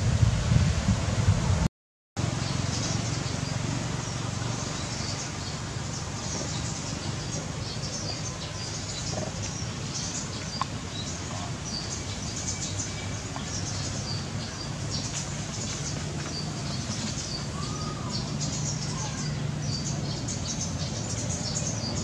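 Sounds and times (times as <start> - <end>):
small birds chirping: 2.2 - 22.0.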